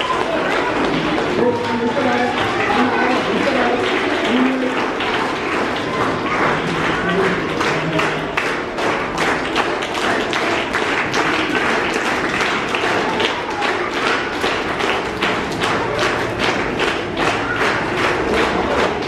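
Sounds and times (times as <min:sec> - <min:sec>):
audience clapping: 0:00.0 - 0:19.0
crowd noise: 0:00.0 - 0:19.0.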